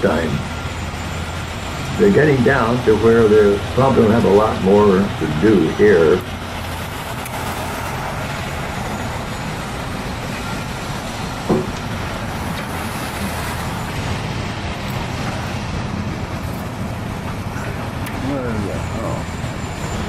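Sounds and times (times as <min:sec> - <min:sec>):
heavy vehicle engines rumbling: 0:00.0 - 0:20.0
street traffic: 0:00.0 - 0:20.0.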